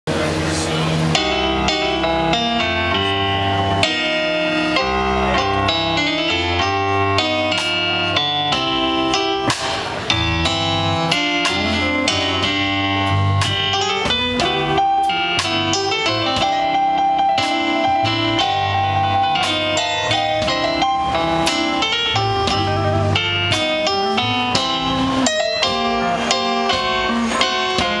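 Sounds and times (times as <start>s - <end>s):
electric bass guitar: 0.0s - 28.0s
drum kit: 0.1s - 28.0s
electric guitar: 0.1s - 28.0s
electric keyboard: 0.1s - 28.0s.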